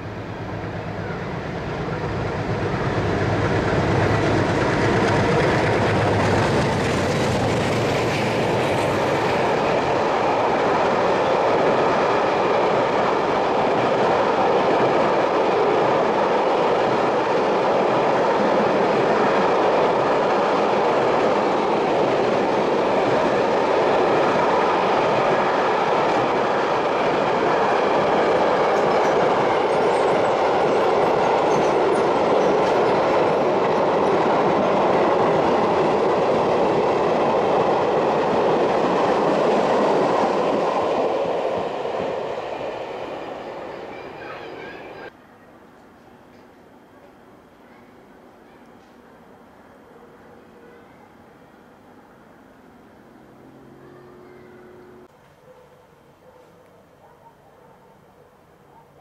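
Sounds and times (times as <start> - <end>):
train wheels on rails: 0.0 - 47.5.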